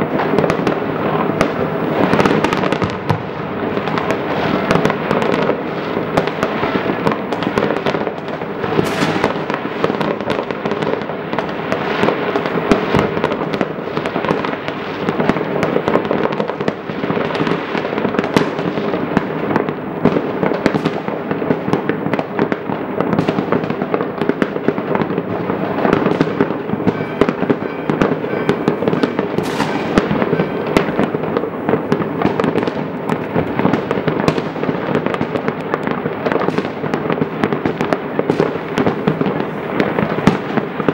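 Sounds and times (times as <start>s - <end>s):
fireworks crackling and banging: 0.0s - 40.9s.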